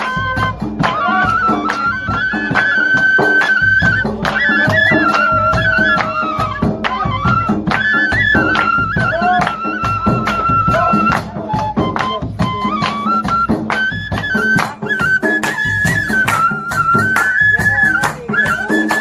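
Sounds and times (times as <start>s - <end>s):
drum beating steady rhythm: 0.0s - 19.0s
flute melody: 0.0s - 19.0s.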